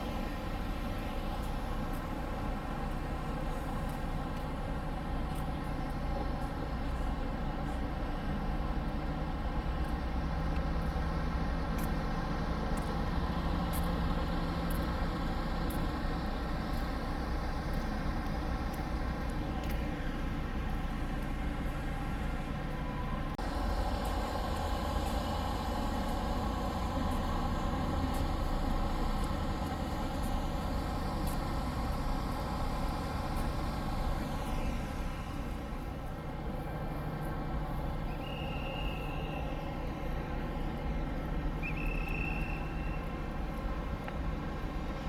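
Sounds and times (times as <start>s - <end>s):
bus engine rumbling: 0.0s - 45.0s.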